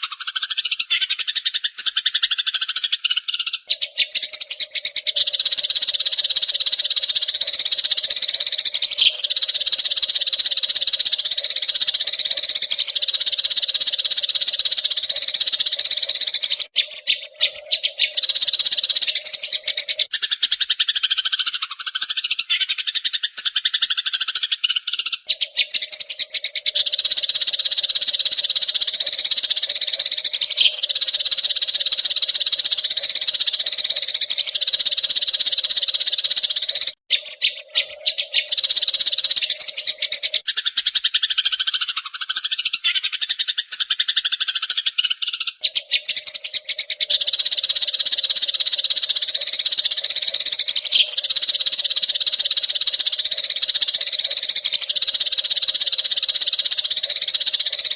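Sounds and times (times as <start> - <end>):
sparrows chirping: 0.0 - 57.9.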